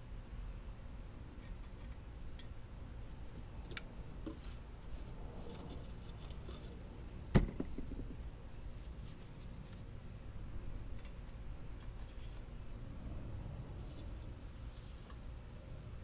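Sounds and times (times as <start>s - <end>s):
low steady rumble: 2.0s - 16.0s.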